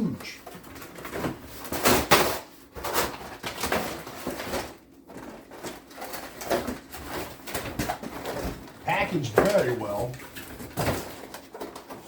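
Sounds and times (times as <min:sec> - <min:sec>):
cardboard and plastic rustling: 0:00.0 - 0:12.0.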